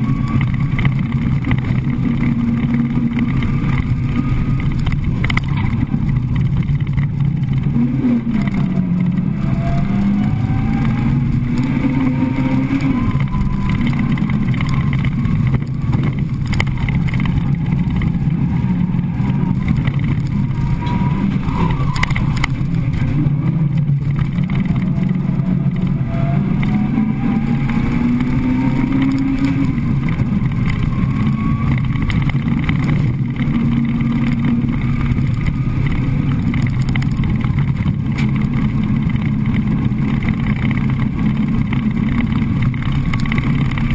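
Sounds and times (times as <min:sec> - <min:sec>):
car engine revving: 0:00.0 - 0:43.9
road and cabin rumble: 0:00.0 - 0:43.9.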